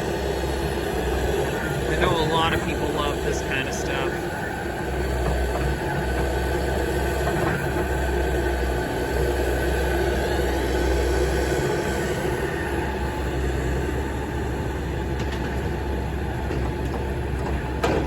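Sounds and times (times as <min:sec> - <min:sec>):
heavy diesel machinery rumbling: 0:00.0 - 0:18.0.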